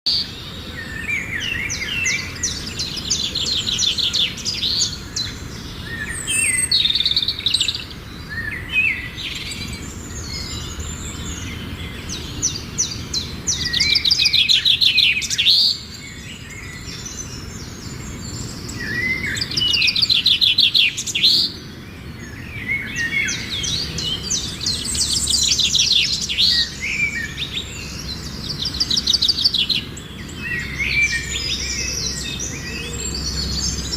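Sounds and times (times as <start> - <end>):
songbirds trilling and chirping: 0.1 - 33.9.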